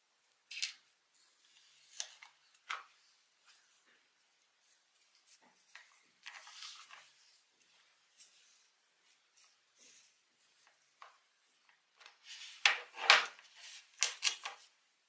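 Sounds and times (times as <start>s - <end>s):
faint clicks and rubs: 0.5s - 14.8s.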